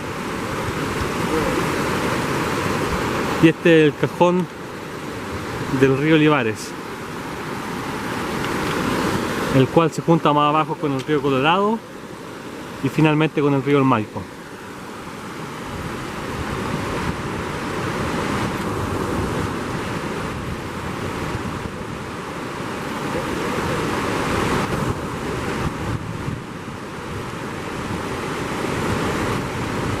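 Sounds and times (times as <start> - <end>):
fast-flowing river rushing: 0.0 - 30.0.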